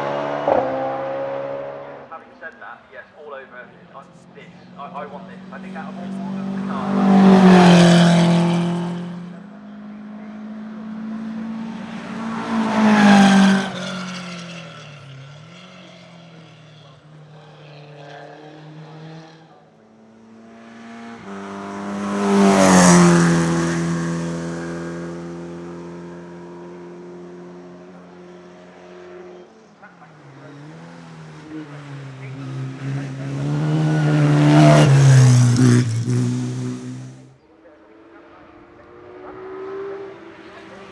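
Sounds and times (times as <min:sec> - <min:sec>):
race car engines passing at speed: 0:00.0 - 0:40.9.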